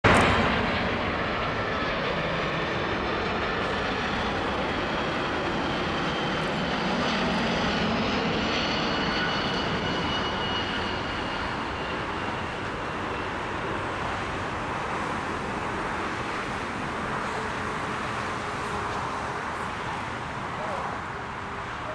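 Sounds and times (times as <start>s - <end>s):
jet engines on landing approach: 0.0s - 21.9s.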